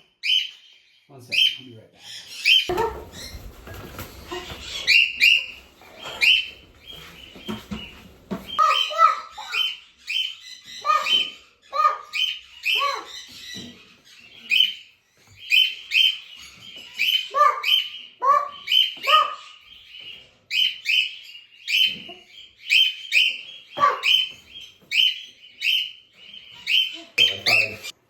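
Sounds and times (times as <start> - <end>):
parrots chirping and squawking: 0.0 - 28.0.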